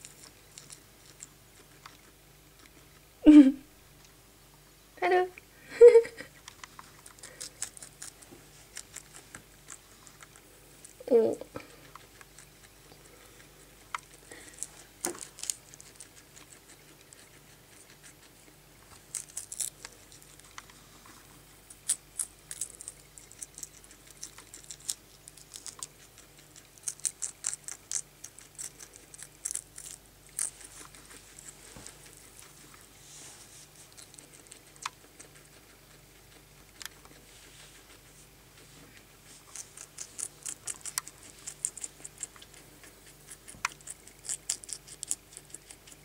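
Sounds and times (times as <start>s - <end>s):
guinea pig chewing leaf: 0.0s - 3.1s, 6.3s - 46.0s.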